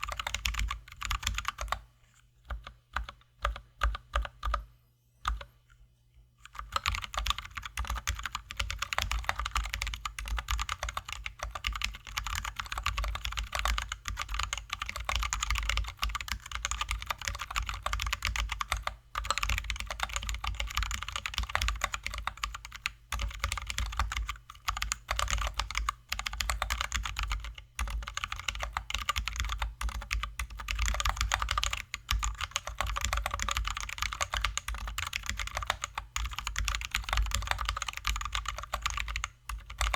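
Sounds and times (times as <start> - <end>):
fast mechanical keyboard typing: 0.0 - 1.8, 2.5 - 4.6, 6.5 - 39.9.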